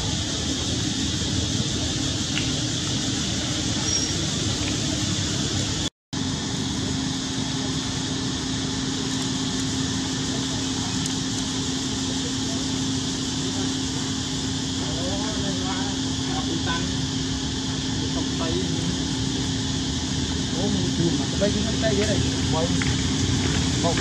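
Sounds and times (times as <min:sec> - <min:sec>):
even hiss: 0:00.0 - 0:24.0
steady low hum: 0:00.0 - 0:24.0.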